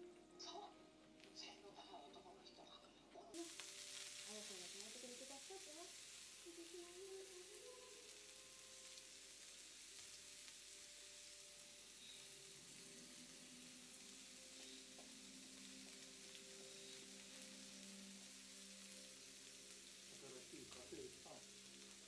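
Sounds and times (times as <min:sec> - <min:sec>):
meat sizzling on a grill: 0:03.3 - 0:22.0.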